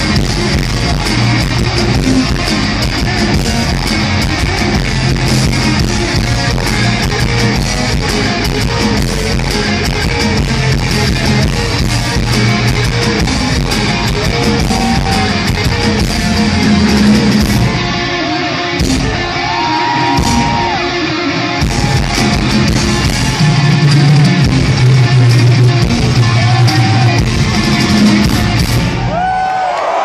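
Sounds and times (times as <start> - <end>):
distorted electric guitars: 0.0 - 29.6
bass and drums: 0.0 - 30.0
crowd cheering and whistling: 0.0 - 30.0.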